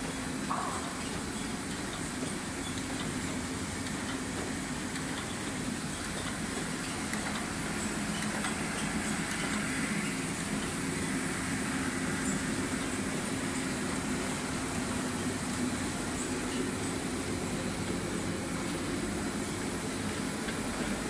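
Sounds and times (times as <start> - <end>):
laminating machine humming: 0.0 - 21.0.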